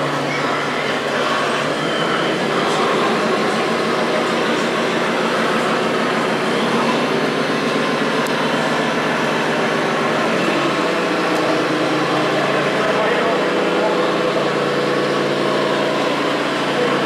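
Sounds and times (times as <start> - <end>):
simulated diesel engine sounds: 0.0 - 17.0.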